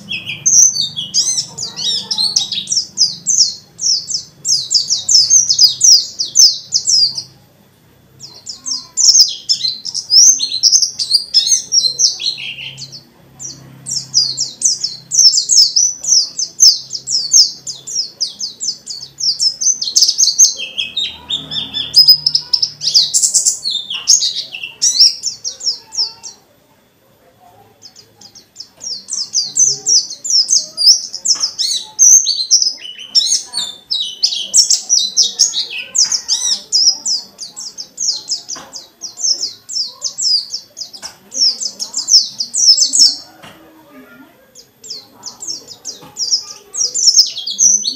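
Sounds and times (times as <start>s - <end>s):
bird singing high chattering trills: 0.0s - 26.6s, 27.6s - 47.9s.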